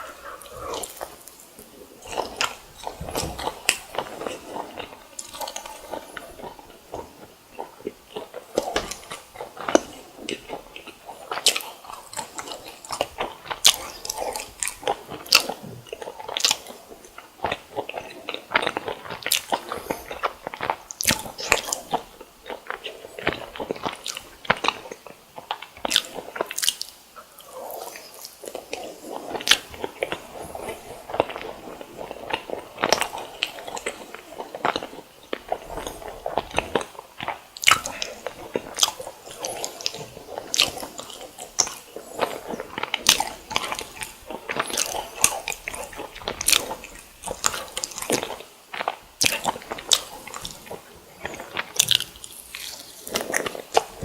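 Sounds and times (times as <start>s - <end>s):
person chewing crunchy fried food: 0.0s - 54.0s.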